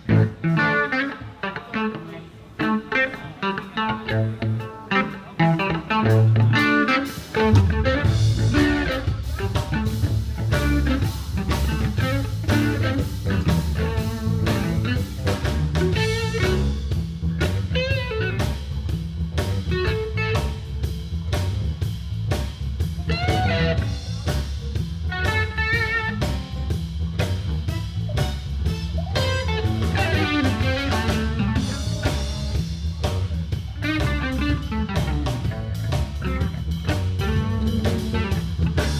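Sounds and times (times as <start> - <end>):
electric guitar lead: 0.0 - 38.9
live blues band playing: 0.0 - 38.9.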